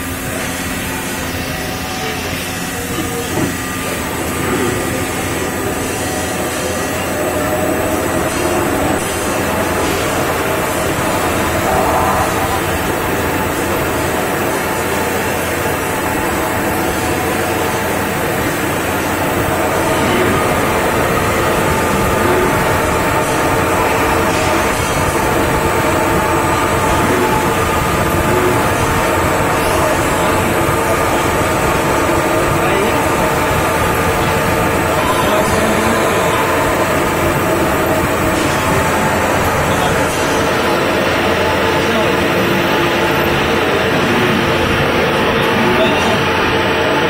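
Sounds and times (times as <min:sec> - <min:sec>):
drilling machine running: 0:00.0 - 0:47.0.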